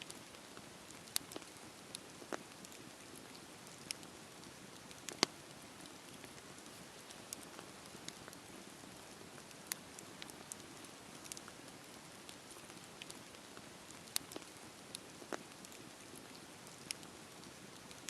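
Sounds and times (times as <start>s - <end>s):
campfire crackling: 0.0s - 18.0s
fire pops and snaps: 0.1s - 8.5s, 9.4s - 18.0s.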